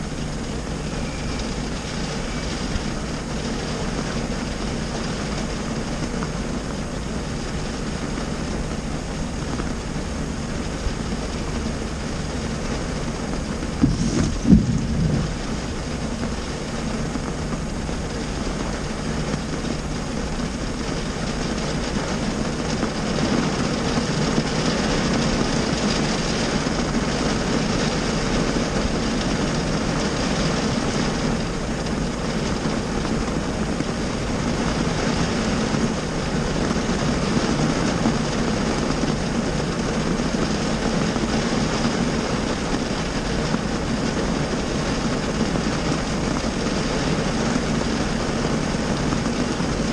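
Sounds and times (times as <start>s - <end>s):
heavy rain on car roof: 0.0s - 49.9s.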